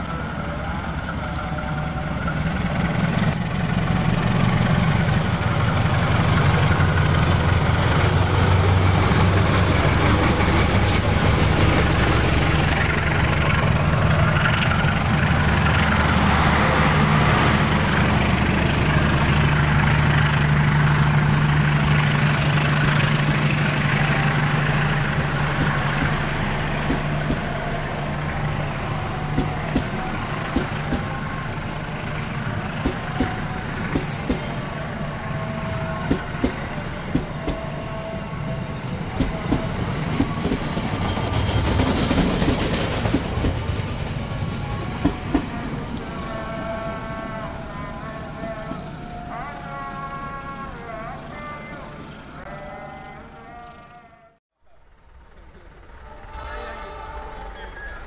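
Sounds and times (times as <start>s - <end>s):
locomotive engine droning: 0.0s - 58.0s
train coaches rolling: 0.0s - 58.0s.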